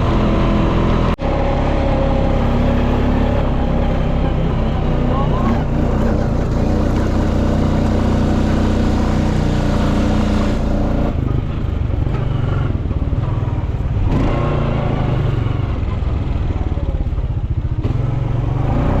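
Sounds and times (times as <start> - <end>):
quad bike engine running: 0.0 - 19.0.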